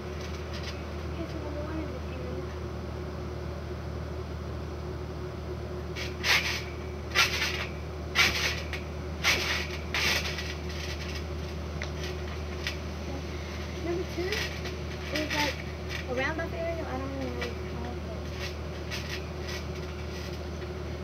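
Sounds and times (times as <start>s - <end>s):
trampoline bouncing swishes: 0.0s - 2.5s, 5.9s - 21.0s
steady low hum: 0.0s - 21.0s.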